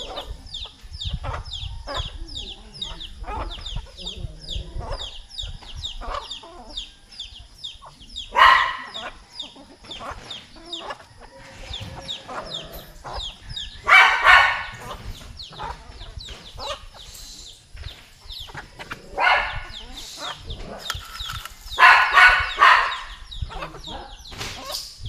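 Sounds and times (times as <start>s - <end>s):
chickens clucking and calling: 0.0s - 25.0s.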